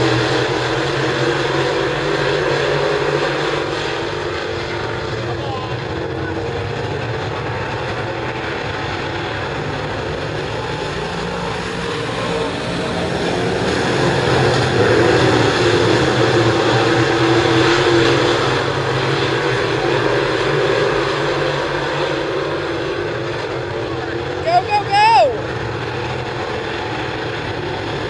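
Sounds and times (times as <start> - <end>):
race car engines roaring: 0.0 - 28.0.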